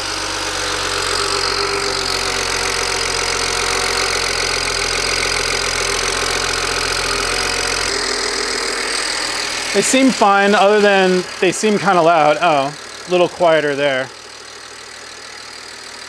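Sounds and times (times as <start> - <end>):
car engine idling: 0.0 - 16.0
loud fuel injector ticking: 0.0 - 16.0.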